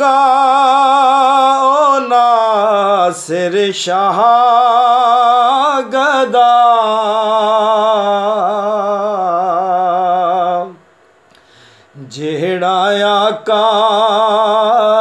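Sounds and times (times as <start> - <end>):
man singing solo: 0.0 - 10.8, 12.0 - 15.0.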